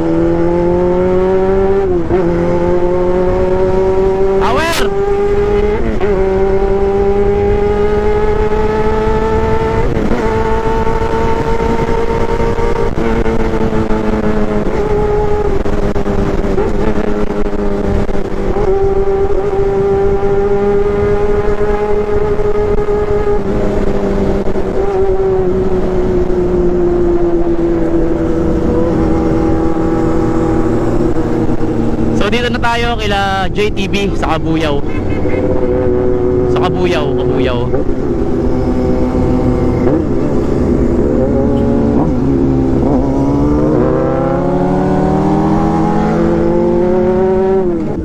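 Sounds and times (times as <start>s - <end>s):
motorcycle engine at high revs: 0.0s - 32.7s, 34.8s - 48.0s.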